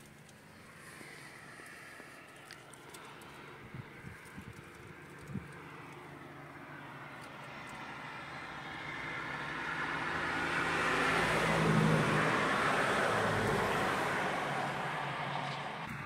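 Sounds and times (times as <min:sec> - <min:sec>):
vehicle passing by: 0:00.4 - 0:16.0.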